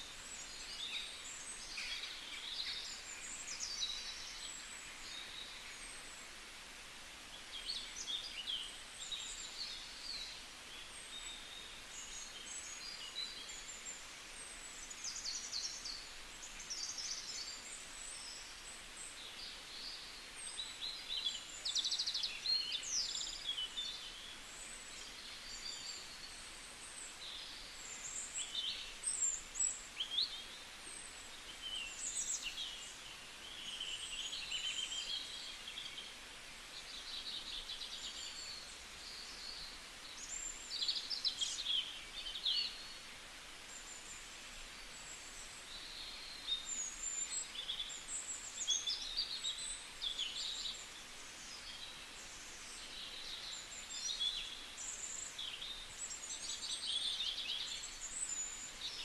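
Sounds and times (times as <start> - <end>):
faint background hiss: 0.0 - 59.0
small birds chirping: 0.0 - 59.0.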